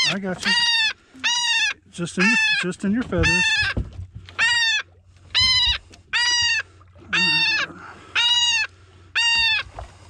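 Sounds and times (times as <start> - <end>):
gull distress calls: 0.0 - 9.9.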